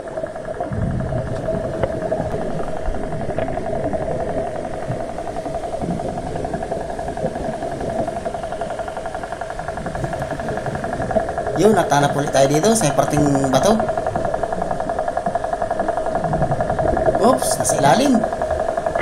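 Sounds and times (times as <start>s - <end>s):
faint ticks: 0.0s - 19.0s
underwater motor drone: 0.0s - 19.0s.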